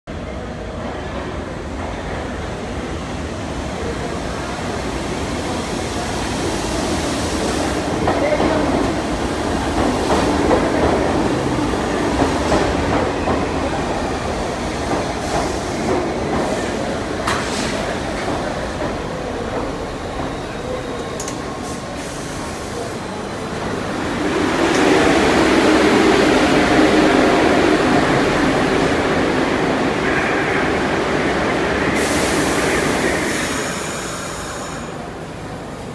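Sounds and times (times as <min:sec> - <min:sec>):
subway train approaching: 0:00.1 - 0:35.9.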